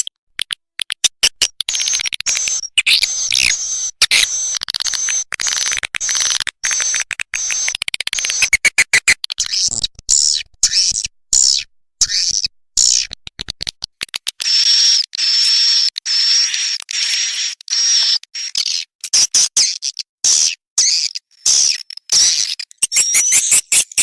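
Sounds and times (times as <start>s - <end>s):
swiftlet clicking and chirping: 0.0s - 17.4s, 19.2s - 24.0s.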